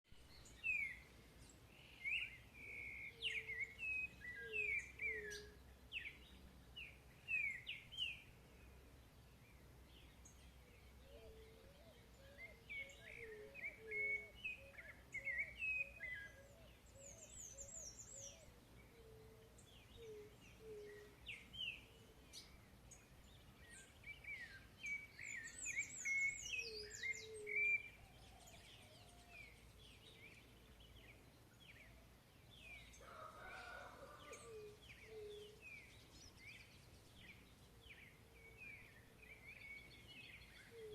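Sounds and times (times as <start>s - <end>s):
birds chirping and trilling: 0.2s - 40.9s.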